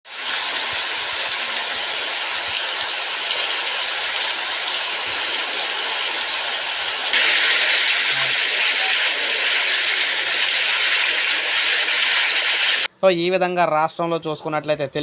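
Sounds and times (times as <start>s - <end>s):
steady hissing noise: 0.2s - 13.3s.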